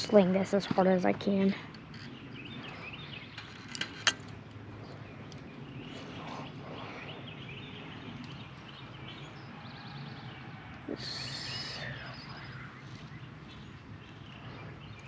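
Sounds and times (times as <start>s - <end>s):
birds chirping: 0.0s - 15.0s
steady low background noise: 0.0s - 15.0s.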